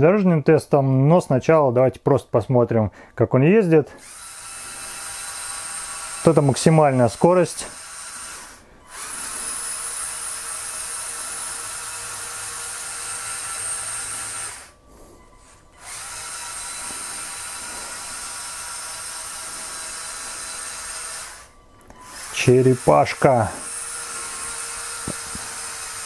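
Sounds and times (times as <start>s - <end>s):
toy truck motor whine: 4.0s - 26.0s.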